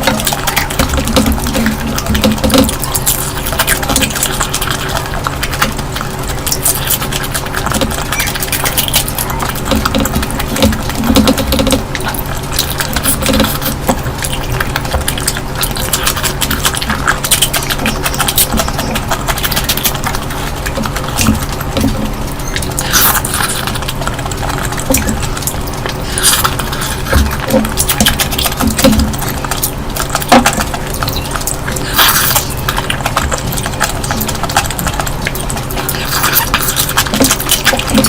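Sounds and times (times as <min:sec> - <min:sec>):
close chewing sounds: 0:00.0 - 0:38.0
low hum: 0:00.0 - 0:38.0.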